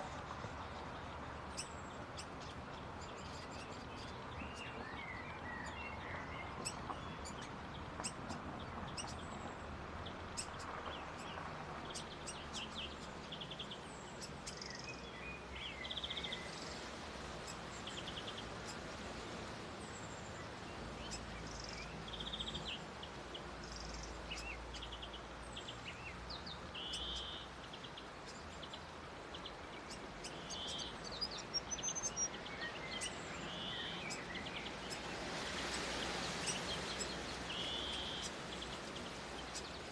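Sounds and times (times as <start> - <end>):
outdoor background hiss: 0.0 - 39.9
small birds chirping: 0.0 - 39.9.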